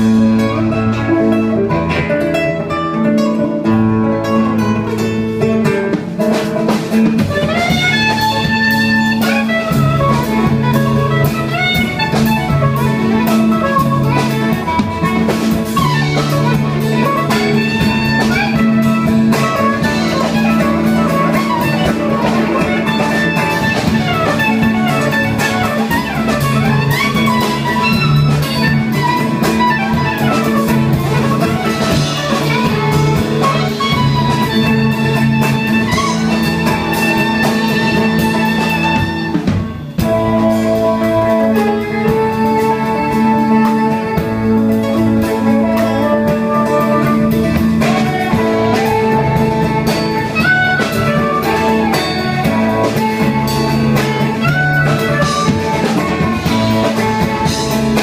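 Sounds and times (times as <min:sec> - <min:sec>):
jazz band playing: 0:00.0 - 0:58.0.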